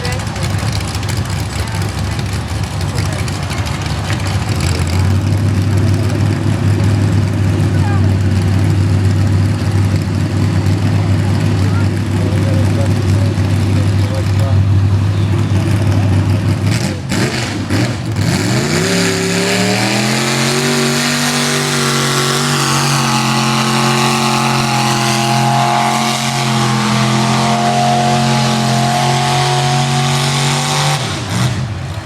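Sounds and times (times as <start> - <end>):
tractor engine revving: 0.0 - 32.0.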